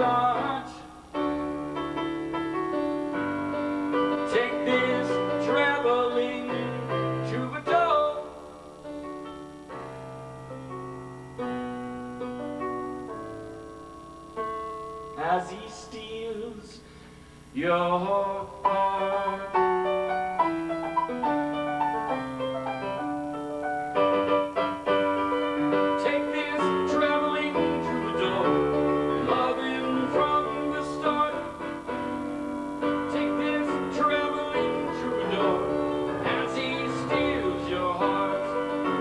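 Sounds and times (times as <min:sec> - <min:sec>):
piano chords and melody: 0:00.0 - 0:16.6, 0:18.2 - 0:39.0.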